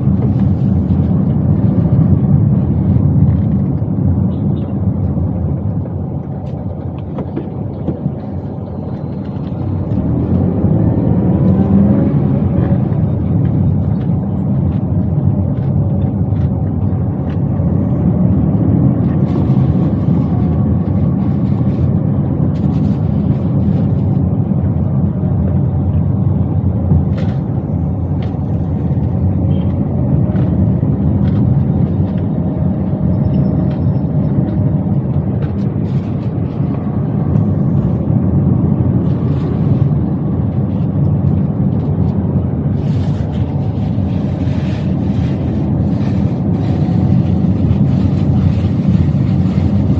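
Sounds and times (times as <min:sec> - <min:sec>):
car engine: 0:00.0 - 0:49.9
road noise inside car: 0:00.0 - 0:49.9.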